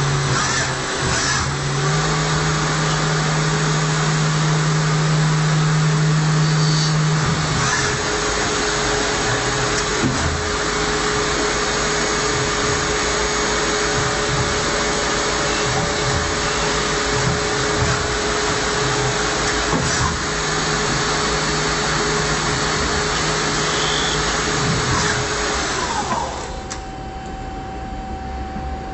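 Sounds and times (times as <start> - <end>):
machine whine: 0.0 - 28.9.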